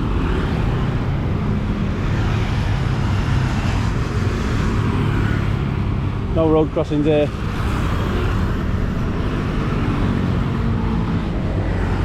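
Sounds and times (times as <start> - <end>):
motorbikes passing: 0.0 - 12.0
road traffic rumble: 0.0 - 12.0.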